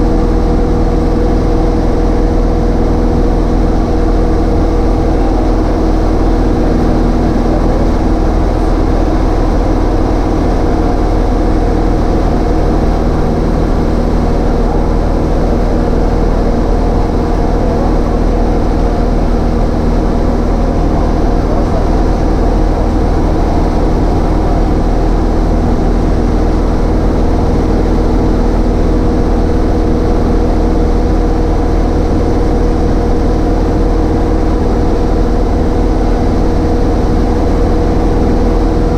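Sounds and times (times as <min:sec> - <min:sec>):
airplane engine and propeller droning: 0:00.0 - 0:38.9.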